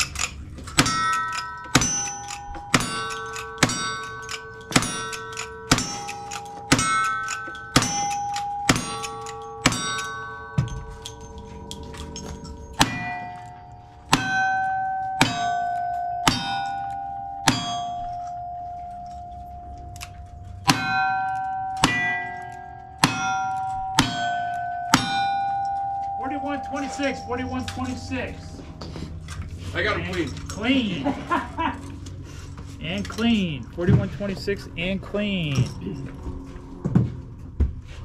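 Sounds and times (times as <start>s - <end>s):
steel plate clanging: 0.0s - 36.4s.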